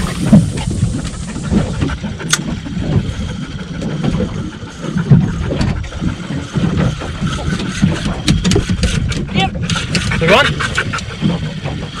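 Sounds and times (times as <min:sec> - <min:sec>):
water slapping against boat hull: 0:00.0 - 0:12.0
wind rumbling on microphone: 0:00.0 - 0:12.0.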